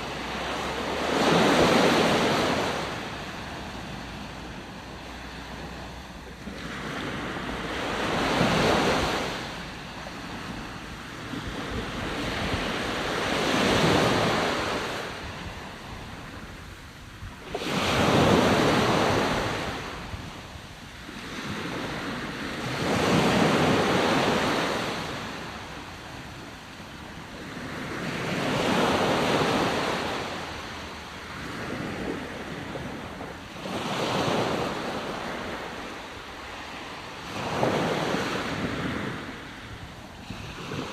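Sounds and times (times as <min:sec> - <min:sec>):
ocean waves washing in: 0:00.0 - 0:40.9.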